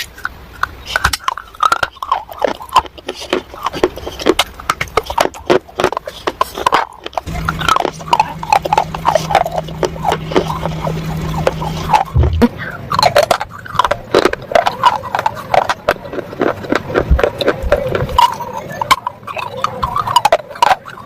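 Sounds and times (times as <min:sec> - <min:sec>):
crunching and chewing: 0:00.0 - 0:21.0
steady low hum: 0:00.0 - 0:21.0
wet mouth sounds: 0:00.0 - 0:21.0.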